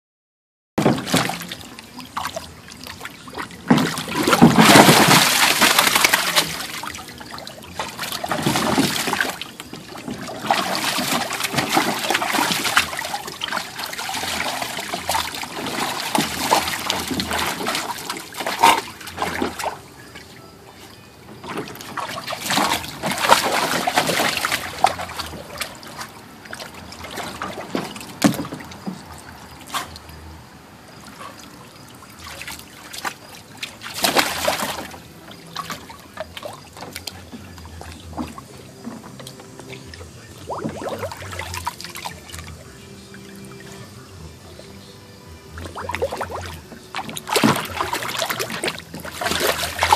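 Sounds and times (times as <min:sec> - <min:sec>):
water splashing in pool: 0:00.8 - 0:49.9.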